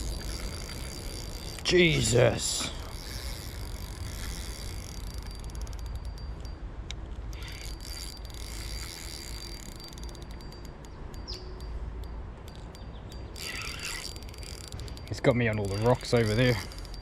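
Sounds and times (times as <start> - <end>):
fishing reel clicking: 0.0 - 17.0.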